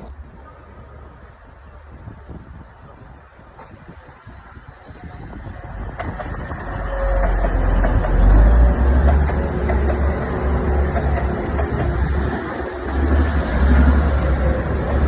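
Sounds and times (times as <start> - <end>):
train rumbling into station: 2.5 - 15.0.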